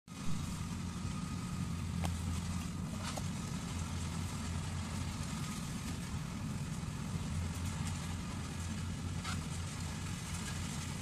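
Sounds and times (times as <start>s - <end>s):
combine harvester engine drone: 0.1s - 11.0s.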